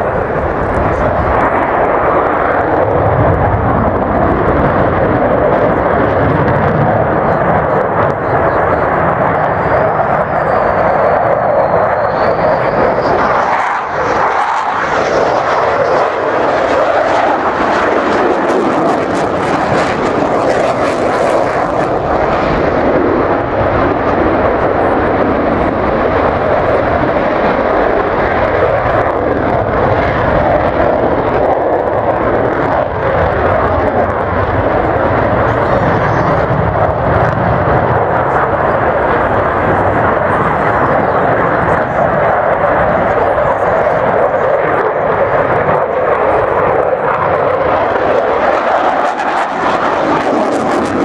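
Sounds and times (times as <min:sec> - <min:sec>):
aircraft engine noise: 0:00.0 - 0:51.0.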